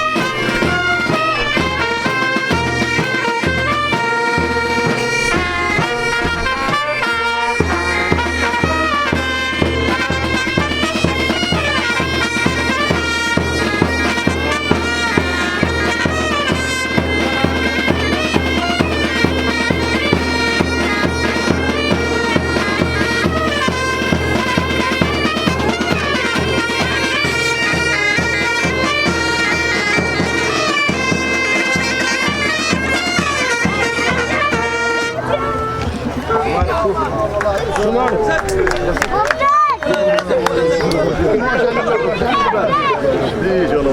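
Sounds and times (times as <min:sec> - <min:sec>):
bagpipes playing melody with drone: 0:00.0 - 0:36.6
drum beating even rhythm: 0:00.0 - 0:43.9.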